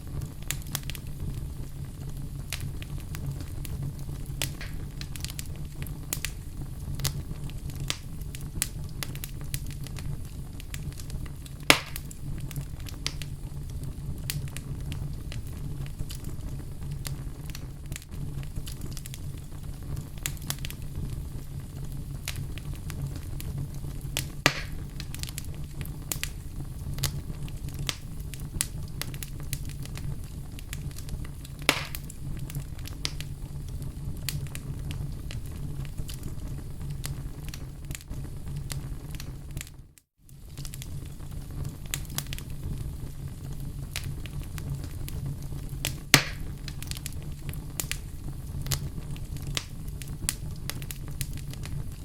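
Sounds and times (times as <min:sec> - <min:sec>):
fire crackling in fireplace: 0:00.0 - 0:52.0
loud fire pops: 0:00.0 - 0:52.0.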